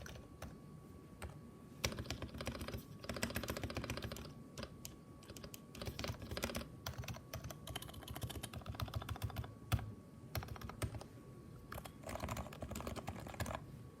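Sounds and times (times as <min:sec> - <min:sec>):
keyboard typing: 0:00.0 - 0:00.6, 0:01.2 - 0:11.1, 0:11.7 - 0:13.6.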